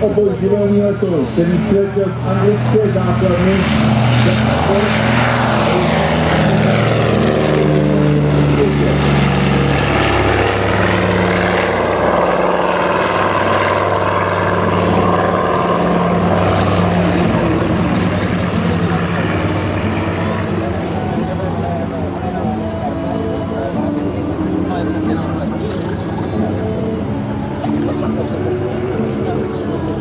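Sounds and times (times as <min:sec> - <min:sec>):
radial aircraft engines at takeoff: 0:00.0 - 0:30.0.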